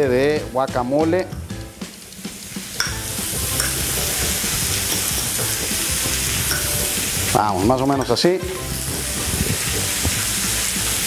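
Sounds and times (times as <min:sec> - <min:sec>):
meat sizzling in a grill pan: 0:01.4 - 0:11.0.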